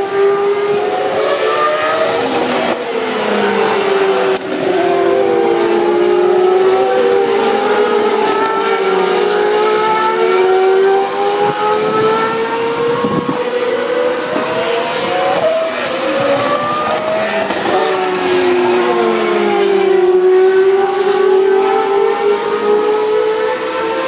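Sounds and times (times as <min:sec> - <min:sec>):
race car engines revving: 0:00.0 - 0:24.0
race car passing: 0:00.0 - 0:24.0.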